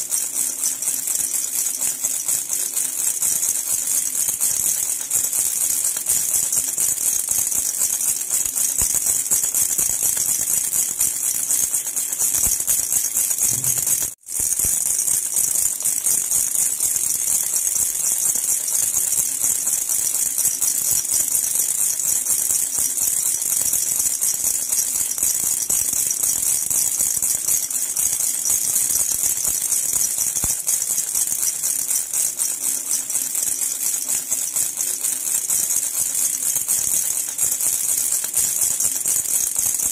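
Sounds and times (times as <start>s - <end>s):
metal baby rattle jingling: 0.0s - 39.9s.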